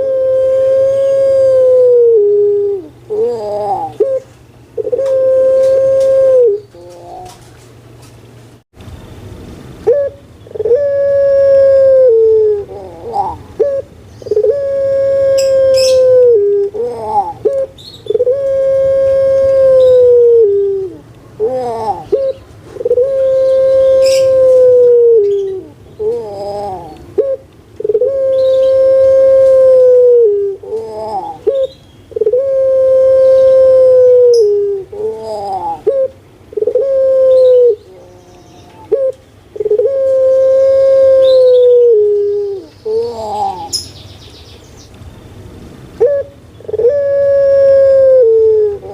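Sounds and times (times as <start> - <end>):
dove cooing: 0.0 - 7.5, 9.8 - 43.8, 46.0 - 48.9.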